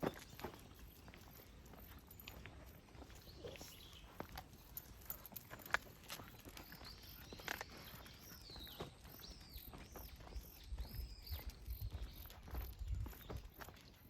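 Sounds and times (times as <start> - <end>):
footsteps: 0.0 - 13.9.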